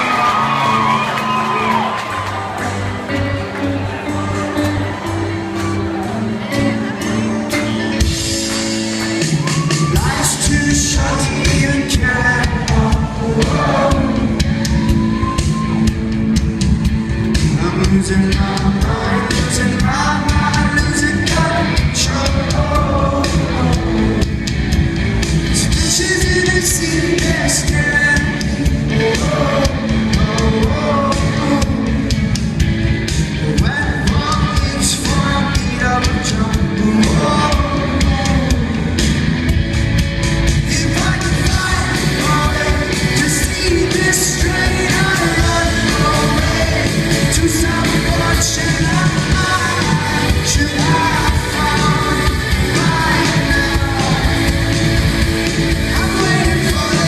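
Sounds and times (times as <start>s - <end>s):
person singing: 0.0s - 16.4s, 17.2s - 24.5s, 25.4s - 32.4s, 33.3s - 39.2s, 40.6s - 57.0s
rock band playing: 0.0s - 57.0s.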